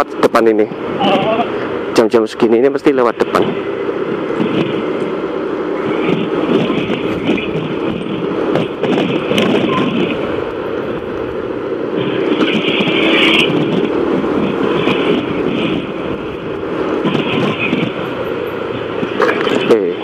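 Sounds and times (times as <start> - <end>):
motorcycle wind and road noise: 0.0 - 20.0.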